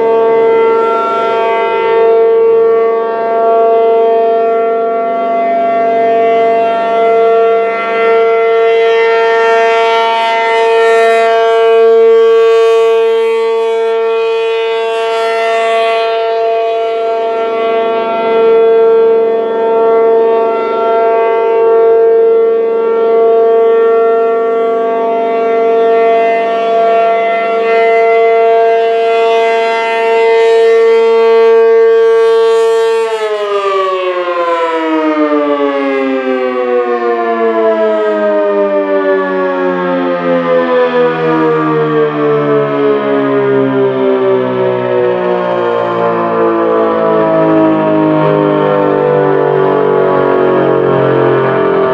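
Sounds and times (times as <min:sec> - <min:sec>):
warning siren steady tone: 0:00.0 - 0:51.9.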